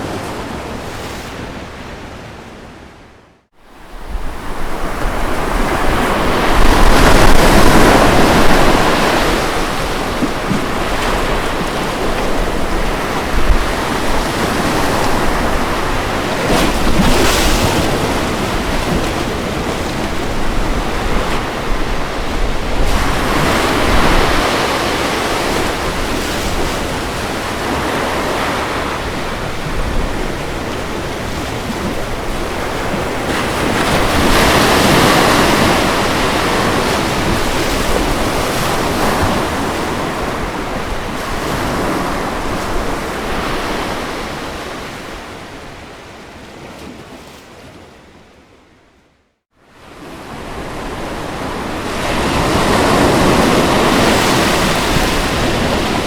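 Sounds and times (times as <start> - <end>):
ocean waves breaking on beach: 0.0 - 48.5, 49.6 - 56.0.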